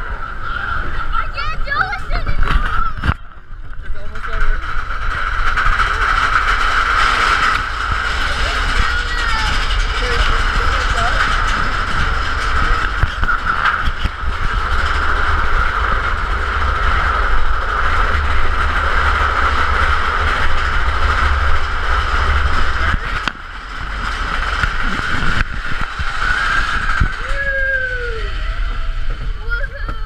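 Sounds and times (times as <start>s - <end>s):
mid-pitched whir: 0.0s - 30.0s
roller coaster cars rumbling: 0.0s - 30.0s.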